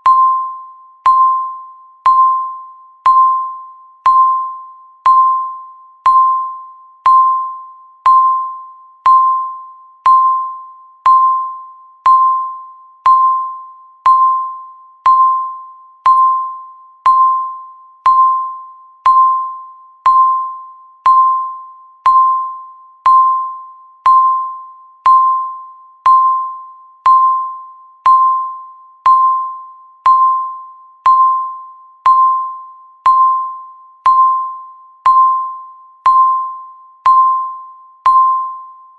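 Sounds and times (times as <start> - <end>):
timer beeping bell-like tone: 0.0 - 38.9.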